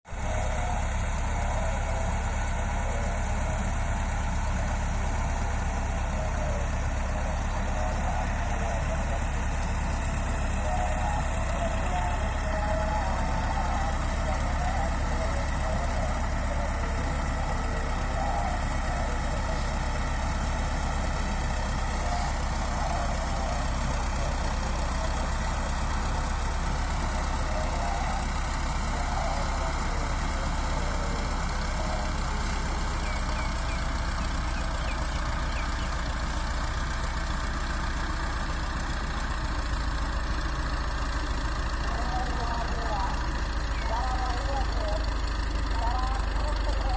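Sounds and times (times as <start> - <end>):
bulldozer engine running: 0.1 - 46.9.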